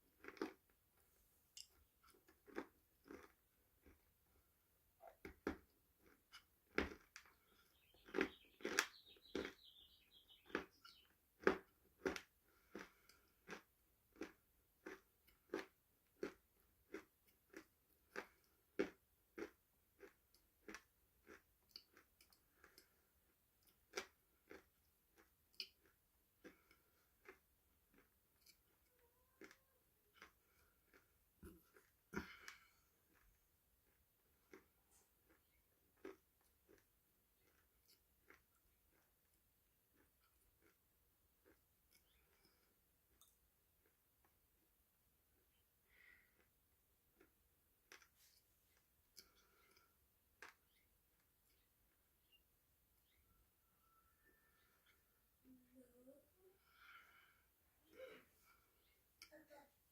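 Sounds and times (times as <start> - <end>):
chewing crunchy food: 0.0 - 0.8, 1.6 - 44.6, 45.4 - 52.4.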